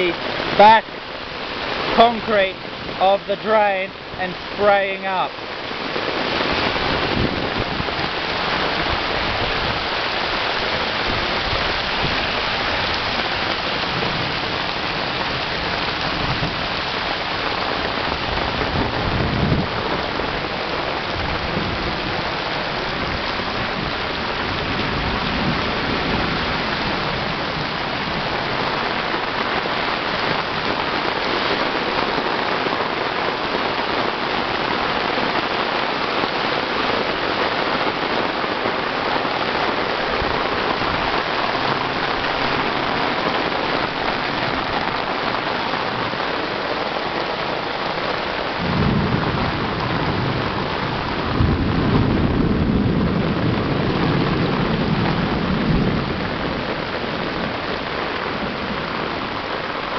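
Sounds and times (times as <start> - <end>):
heavy rain on flooded road: 0.0 - 59.9.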